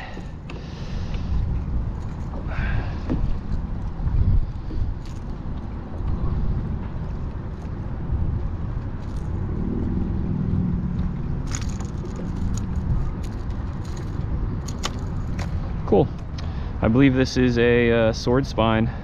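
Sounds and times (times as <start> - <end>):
low hum: 0.0 - 17.0
wind buffeting microphone: 0.0 - 19.0.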